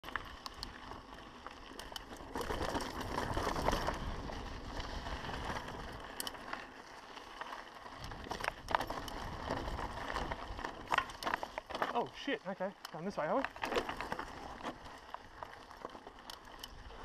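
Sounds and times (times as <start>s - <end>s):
bike rattling: 0.0s - 17.0s
tyres rolling over loose dirt: 0.0s - 17.0s.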